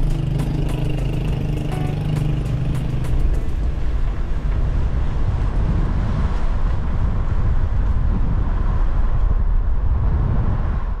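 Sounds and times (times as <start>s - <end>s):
vehicle rumble: 0.0s - 11.0s
wind noise on microphone: 0.0s - 11.0s.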